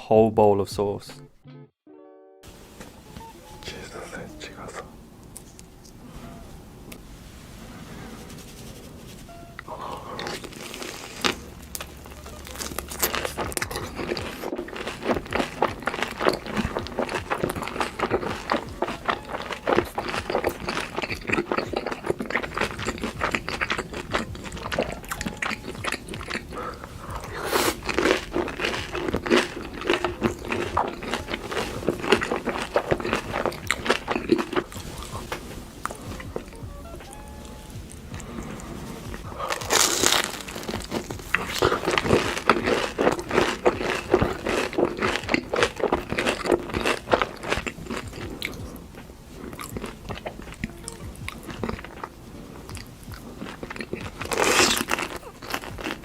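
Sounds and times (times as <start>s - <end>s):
person chewing crunchy food: 9.6s - 56.0s.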